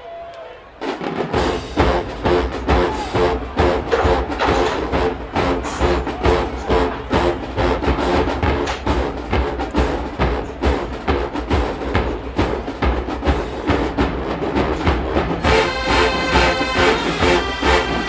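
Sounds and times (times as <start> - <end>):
brass horn section: 0.5 - 18.0
drumline beat: 0.7 - 18.0.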